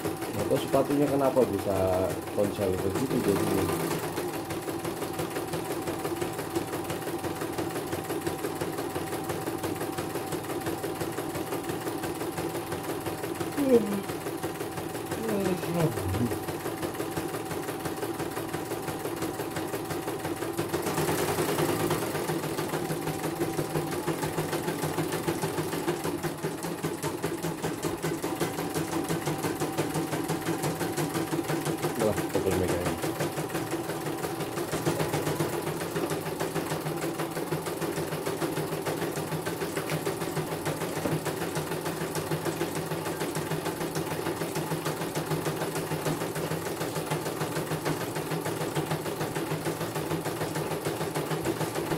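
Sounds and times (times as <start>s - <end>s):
embroidery machine needle clatter: 0.0s - 51.9s.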